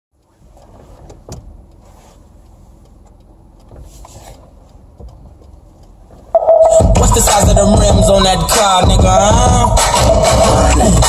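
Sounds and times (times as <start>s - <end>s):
vehicle engine rumbling: 0.2s - 11.0s.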